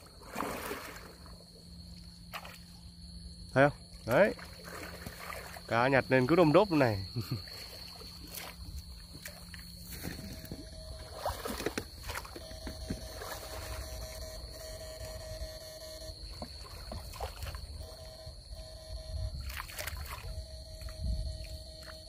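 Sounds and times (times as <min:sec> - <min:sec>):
water sloshing and splashing: 0:00.0 - 0:03.0, 0:03.8 - 0:22.0
low electric hum: 0:00.0 - 0:22.0
steady high whine: 0:00.0 - 0:22.0.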